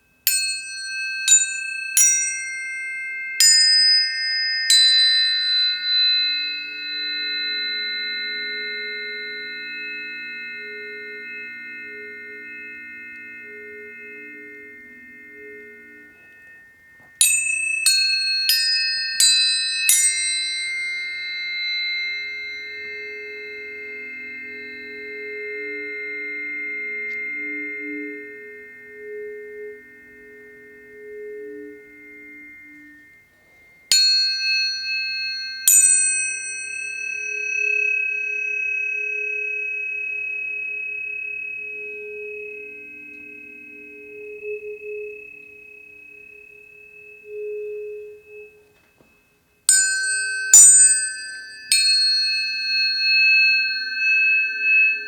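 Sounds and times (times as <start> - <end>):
low wavering hum: 0.0 - 55.0
tuning forks ringing: 0.0 - 55.0.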